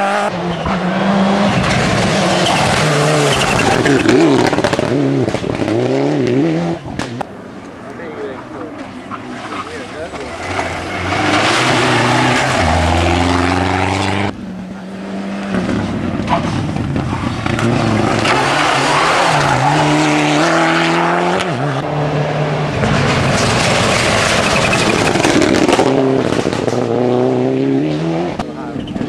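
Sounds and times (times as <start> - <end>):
rally cars revving past: 0.0 - 7.2, 8.7 - 29.0.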